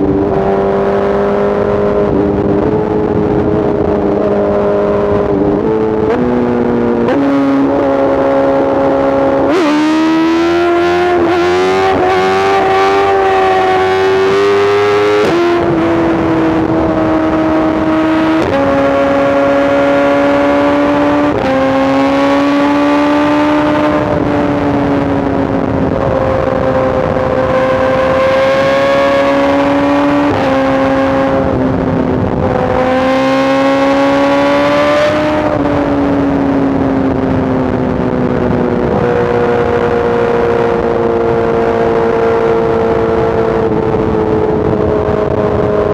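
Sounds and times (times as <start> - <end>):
motorcycle engine running hard: 0.0 - 45.9.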